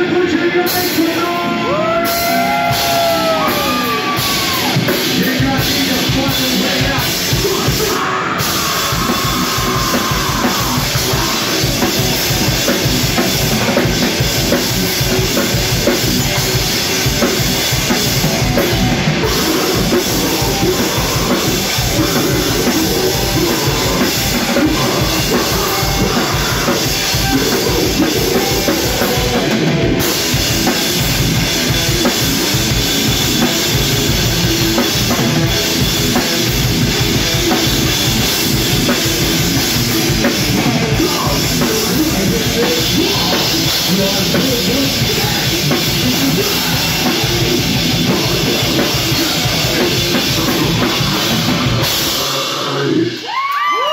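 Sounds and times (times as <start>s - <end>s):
drum kit: 0.0s - 53.9s
electric guitar: 0.0s - 53.9s.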